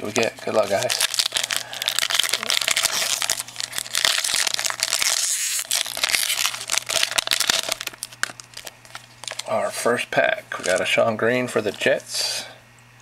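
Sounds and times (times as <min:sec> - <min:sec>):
foil wrapper tearing and crinkling: 0:00.0 - 0:09.6, 0:10.5 - 0:12.0.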